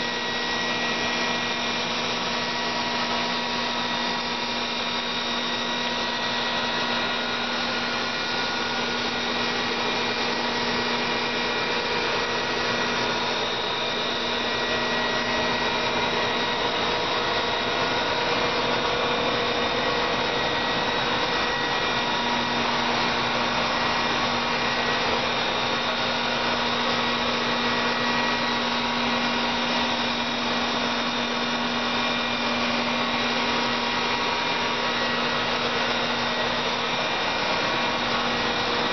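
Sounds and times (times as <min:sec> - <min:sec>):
machine whirring: 0:00.0 - 0:38.9.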